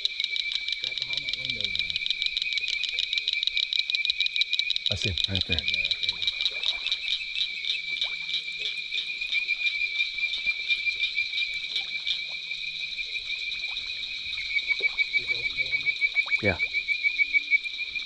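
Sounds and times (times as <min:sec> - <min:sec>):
frogs calling: 0:00.0 - 0:18.0.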